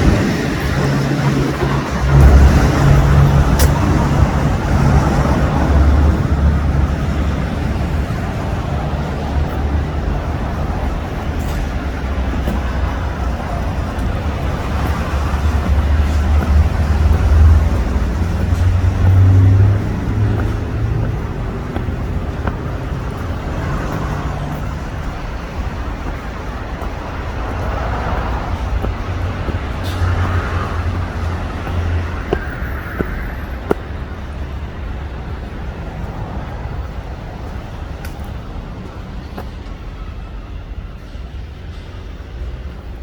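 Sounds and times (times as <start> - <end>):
rumble of passing cars: 0.0 - 43.0.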